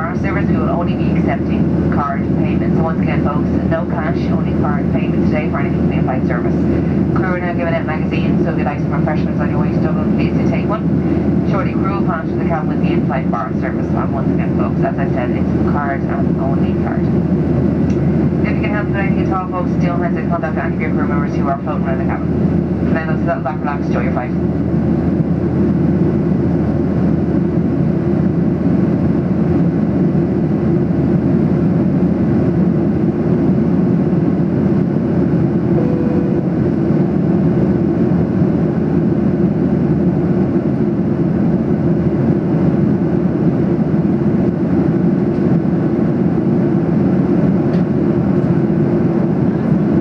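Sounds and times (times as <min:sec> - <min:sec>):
airplane cabin engine rush: 0:00.0 - 0:50.0.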